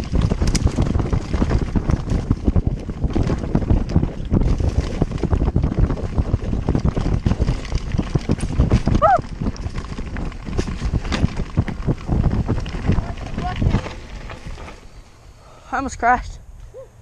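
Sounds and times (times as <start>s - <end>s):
wind on microphone: 0.0s - 15.0s
bike rattling over rough trail: 0.0s - 16.8s.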